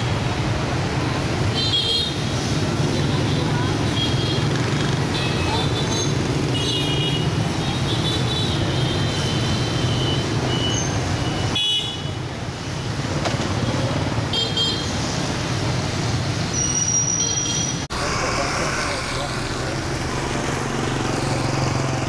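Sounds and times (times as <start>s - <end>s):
motorbike and scooter engines: 0.0s - 22.0s.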